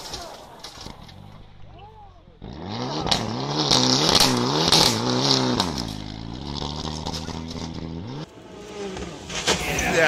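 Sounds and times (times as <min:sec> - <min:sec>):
distant car engine: 0:00.0 - 0:10.0
car engine revving: 0:00.8 - 0:09.9.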